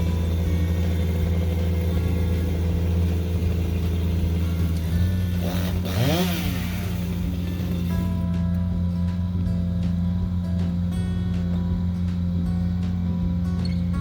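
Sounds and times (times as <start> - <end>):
large engine running: 0.0 - 14.0.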